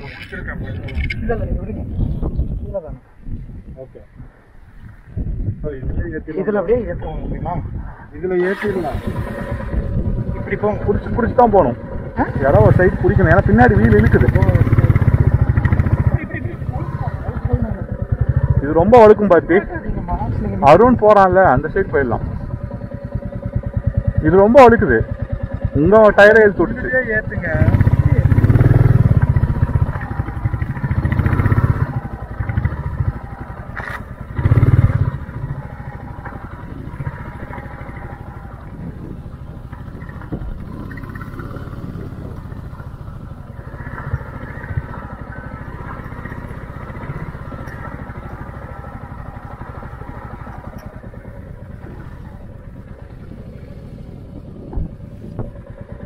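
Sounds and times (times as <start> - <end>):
motorcycle engine running: 0.0 - 3.9, 4.5 - 56.0.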